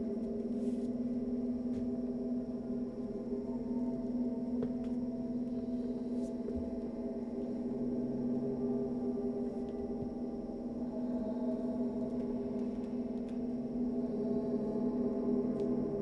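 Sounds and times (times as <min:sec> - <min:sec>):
musical drone with gong-like ring: 0:00.0 - 0:16.0.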